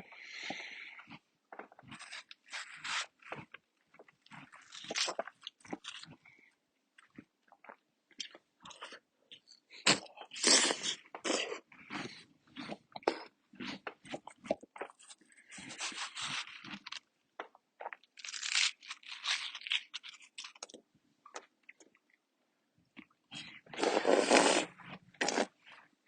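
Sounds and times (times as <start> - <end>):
crunchy chewing of watermelon: 0.1 - 21.9.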